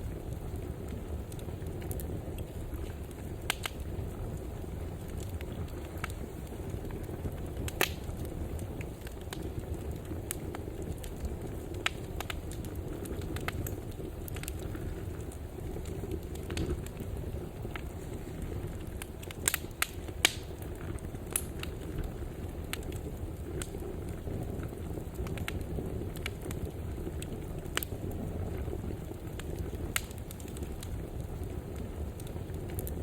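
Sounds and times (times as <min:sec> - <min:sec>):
crackles and pops from logs: 0:00.0 - 0:33.0
wood fire burning: 0:00.0 - 0:33.0.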